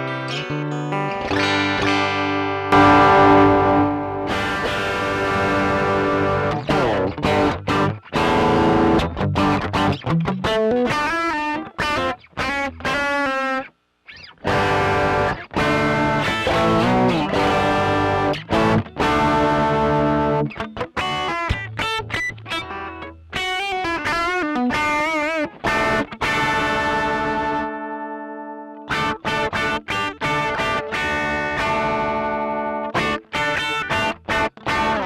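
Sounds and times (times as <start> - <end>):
distorted electric guitar: 0.0 - 35.0.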